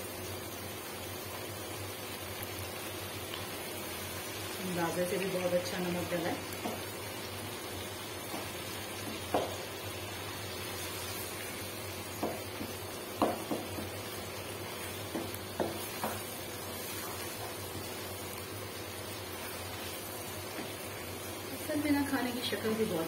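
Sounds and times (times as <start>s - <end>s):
curry sizzling in oil: 0.0s - 23.0s.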